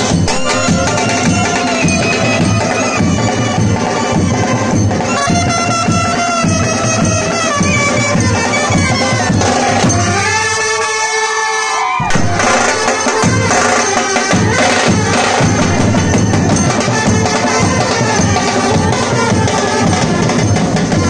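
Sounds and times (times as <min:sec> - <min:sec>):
brass band horns playing melody: 0:00.0 - 0:21.0
drums beating: 0:00.0 - 0:21.0.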